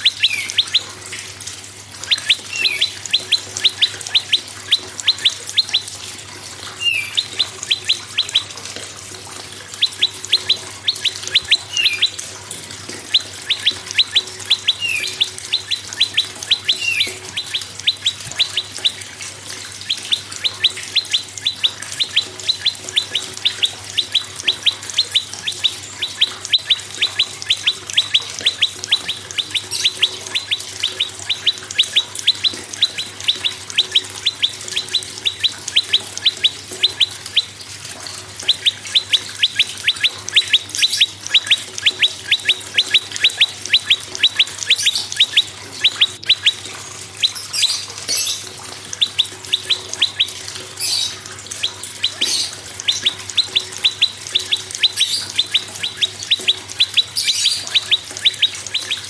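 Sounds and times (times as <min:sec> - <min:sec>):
bird singing sharp down-slurred notes: 0:00.0 - 0:00.9, 0:02.0 - 0:06.0, 0:06.7 - 0:08.6, 0:09.7 - 0:12.2, 0:13.1 - 0:59.0.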